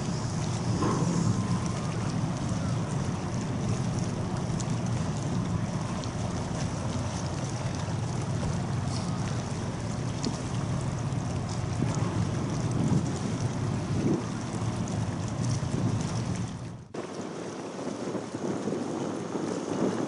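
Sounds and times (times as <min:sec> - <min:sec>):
cargo ship rumble: 0:00.0 - 0:20.0
wind on microphone: 0:00.0 - 0:20.0.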